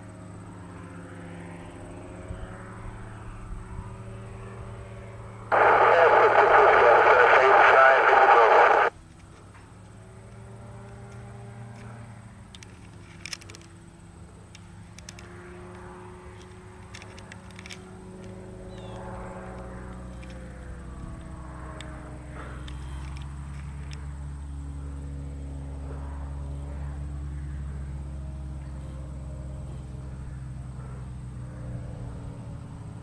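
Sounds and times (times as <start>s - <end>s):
light aircraft engine humming: 0.0s - 33.0s.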